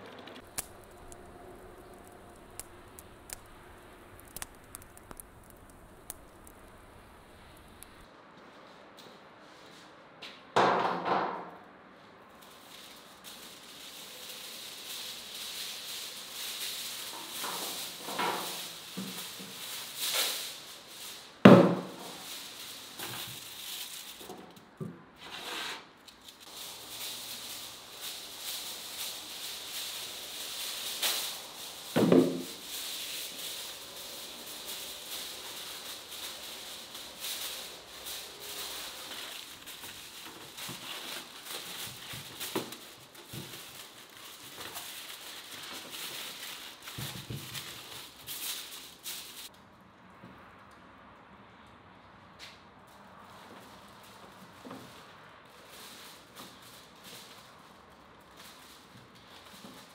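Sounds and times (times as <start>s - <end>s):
aluminium foil crinkling: 0.0s - 8.0s, 12.3s - 49.6s, 53.1s - 59.9s.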